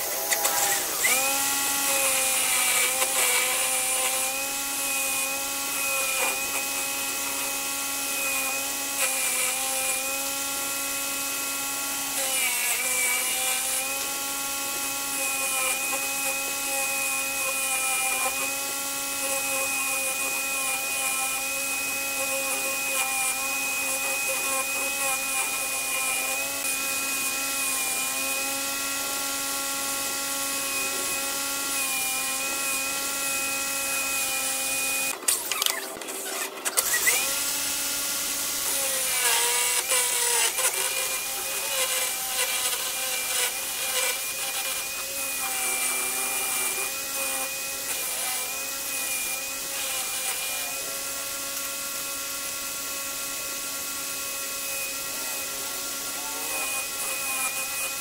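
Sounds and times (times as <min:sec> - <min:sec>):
chisel cutting wood: 0:00.0 - 0:58.0
electric drill whining: 0:00.0 - 0:58.0.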